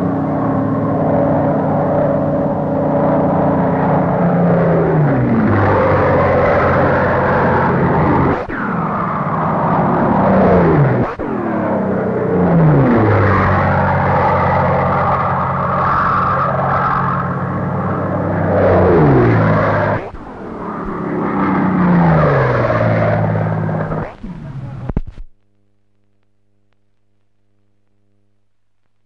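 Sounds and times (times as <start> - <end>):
propeller planes flying low past: 0.0 - 24.9.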